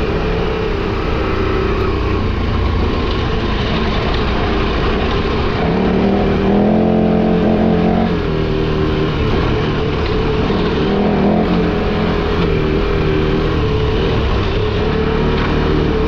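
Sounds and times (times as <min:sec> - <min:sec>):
motorcycle engine revving: 0:00.0 - 0:16.0
rough riding noise: 0:00.0 - 0:16.0.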